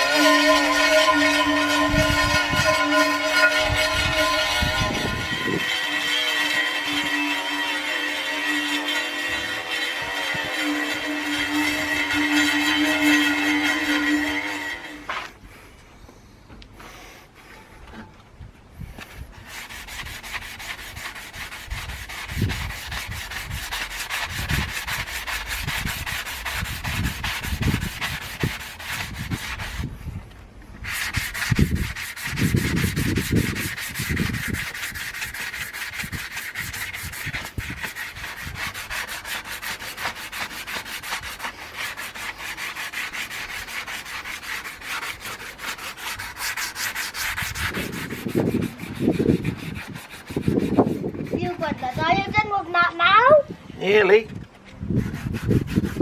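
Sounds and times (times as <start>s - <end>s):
sanding metal wheel: 0.0s - 15.4s, 19.2s - 52.8s, 53.8s - 56.0s.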